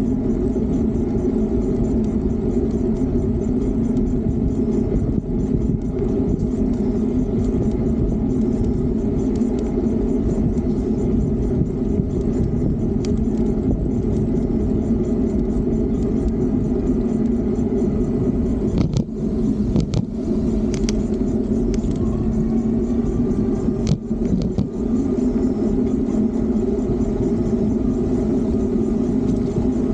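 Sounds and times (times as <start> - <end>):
constant low hum: 0.0 - 29.9
road noise from bike: 0.0 - 29.9
wind rumble: 0.0 - 29.9.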